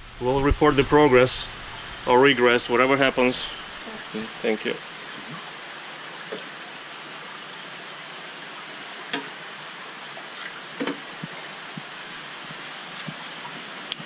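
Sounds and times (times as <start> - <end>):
running water in aquarium: 0.0 - 14.0.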